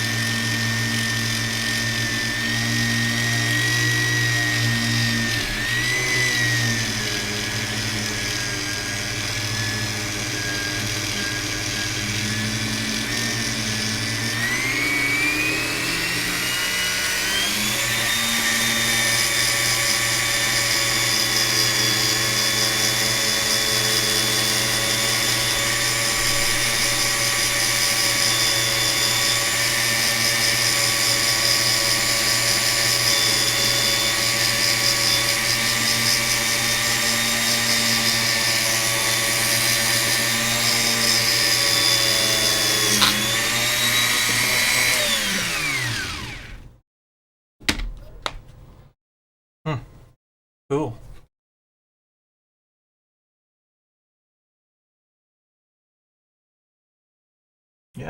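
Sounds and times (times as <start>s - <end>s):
rotary polishing tool whining: 0.0s - 46.7s.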